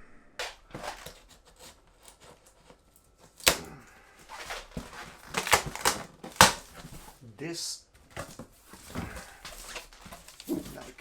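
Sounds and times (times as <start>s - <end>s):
cardboard packaging rustling: 0.4s - 7.3s, 8.0s - 11.0s.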